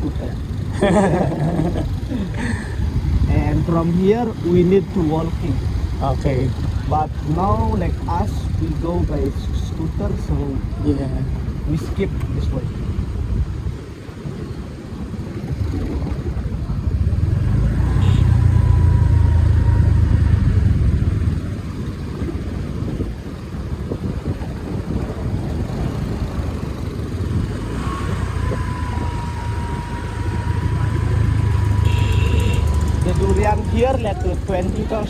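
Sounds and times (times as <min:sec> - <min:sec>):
motor scooter engine rumble: 0:00.0 - 0:35.0
wind buffeting the microphone: 0:00.0 - 0:35.0.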